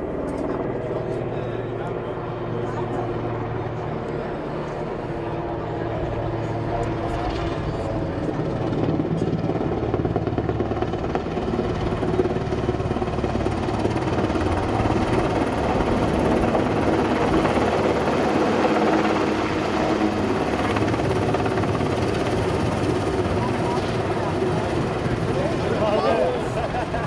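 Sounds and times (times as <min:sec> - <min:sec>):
helicopter flying overhead: 0:00.0 - 0:27.0.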